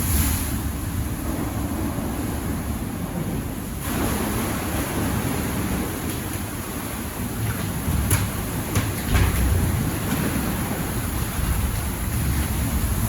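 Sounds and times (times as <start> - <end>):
storm waves surging: 0.0 - 13.0.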